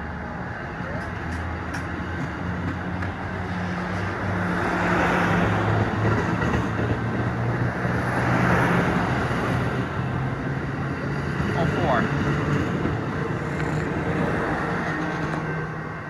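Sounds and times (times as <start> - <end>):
train engine drone: 0.0 - 16.0
wheel and rail noise: 0.0 - 16.0.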